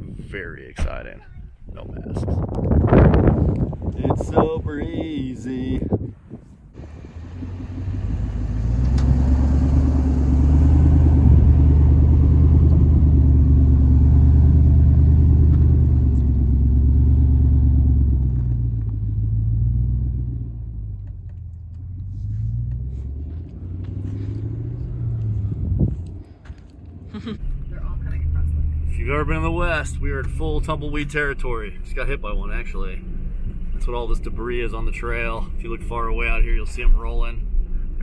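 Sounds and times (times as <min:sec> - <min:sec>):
car engine droning while driving: 0:06.8 - 0:38.0.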